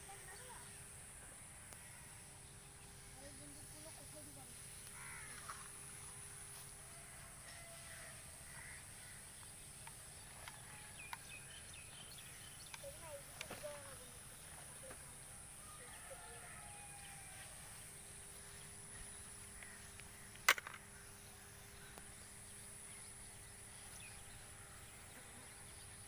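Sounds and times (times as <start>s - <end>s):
faint bird calls: 1.6s - 6.2s, 6.9s - 26.0s.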